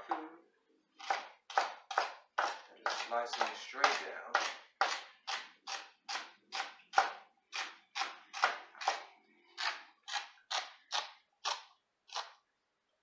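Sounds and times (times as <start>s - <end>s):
knife slicing celery on plastic board: 1.0s - 12.4s.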